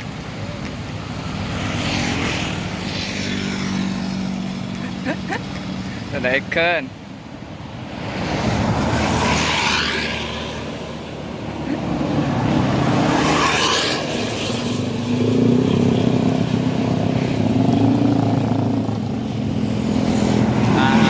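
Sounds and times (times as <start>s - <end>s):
vehicles rushing past: 0.0s - 21.0s.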